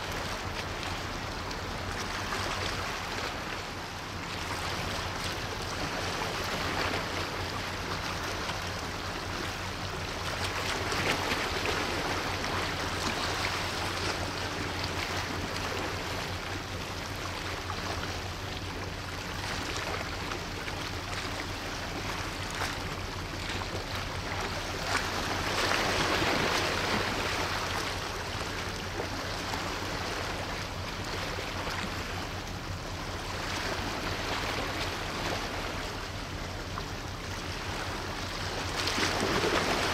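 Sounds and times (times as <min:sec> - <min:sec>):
low steady hum: 0:00.0 - 0:39.9
water rushing: 0:00.0 - 0:39.9.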